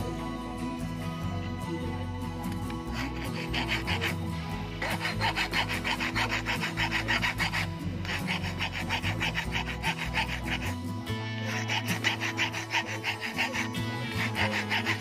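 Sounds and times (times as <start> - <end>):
background music: 0.0 - 15.0
rhythmic rasping strokes: 2.2 - 15.0.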